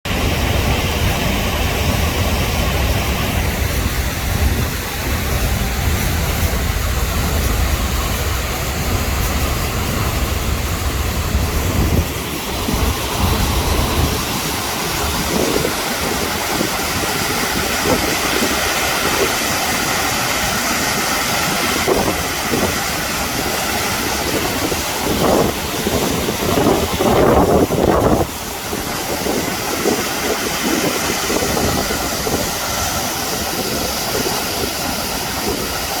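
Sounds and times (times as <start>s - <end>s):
flooded river rushing: 0.1s - 36.0s.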